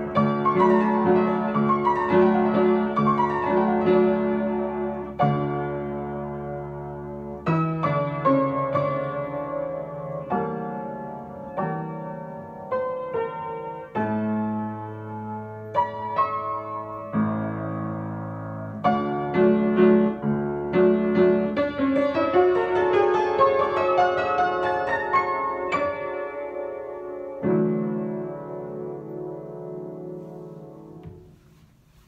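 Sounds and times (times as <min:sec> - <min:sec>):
upright piano playing: 0:00.0 - 0:32.0.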